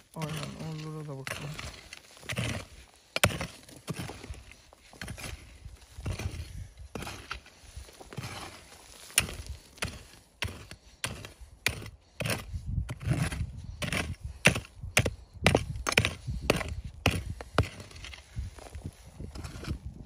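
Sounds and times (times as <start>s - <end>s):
mattock striking stony earth: 0.0s - 19.8s.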